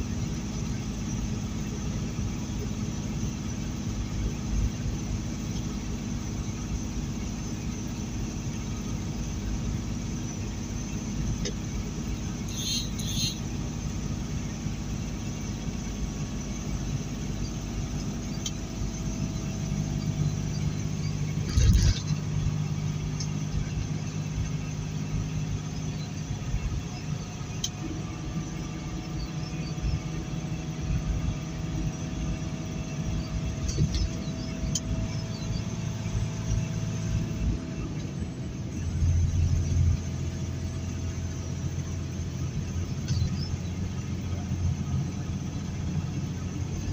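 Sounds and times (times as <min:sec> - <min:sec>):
road noise: 0:00.0 - 0:46.9
truck engine running: 0:00.0 - 0:46.9.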